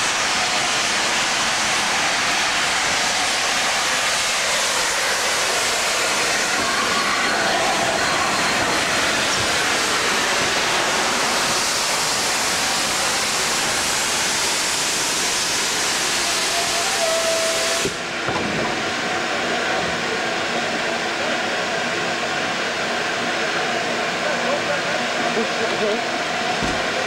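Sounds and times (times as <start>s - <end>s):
steam hissing loudly: 0.0s - 27.0s.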